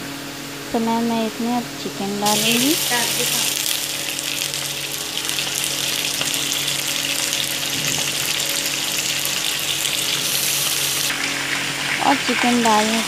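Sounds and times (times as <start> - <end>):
chicken sizzling in hot oil: 2.2 - 13.0.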